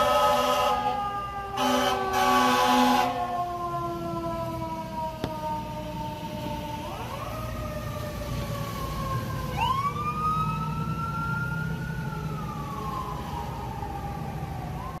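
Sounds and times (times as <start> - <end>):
wailing sirens: 0.0 - 15.0.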